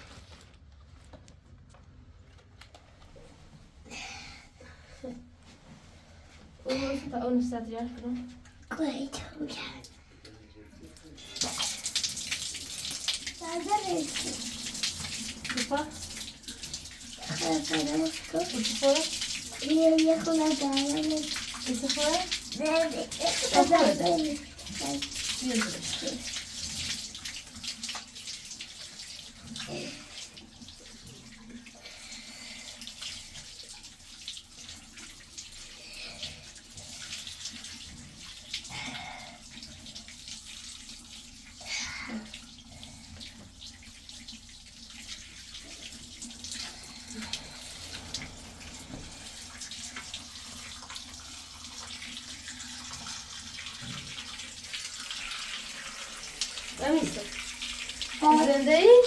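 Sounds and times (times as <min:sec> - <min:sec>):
running water splashing: 0:03.9 - 0:59.0.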